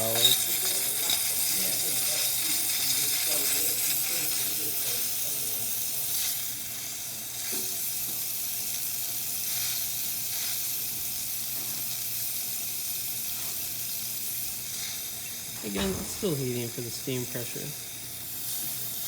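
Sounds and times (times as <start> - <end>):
steam wand hissing: 0.0 - 19.0.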